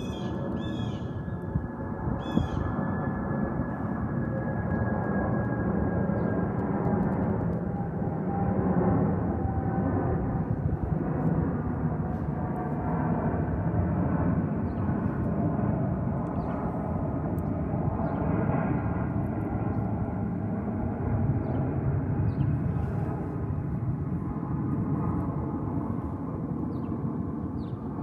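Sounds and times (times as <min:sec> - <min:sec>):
jet engines rumbling with whine: 0:00.0 - 0:28.0.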